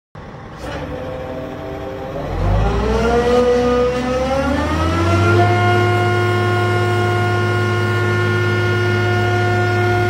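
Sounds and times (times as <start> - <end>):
diesel engine revving: 0.2 - 10.0.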